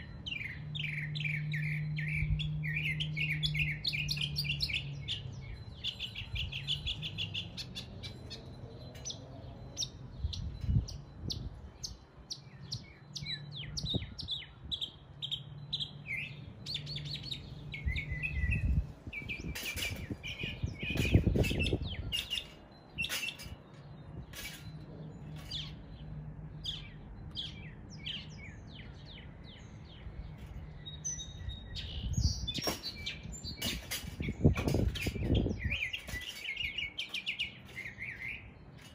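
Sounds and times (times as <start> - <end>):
mockingbird singing: 0.0 - 38.8.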